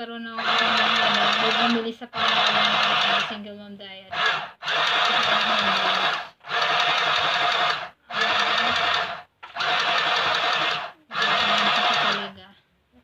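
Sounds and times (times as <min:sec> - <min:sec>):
sewing machine stitching: 0:00.4 - 0:03.4, 0:04.1 - 0:12.4.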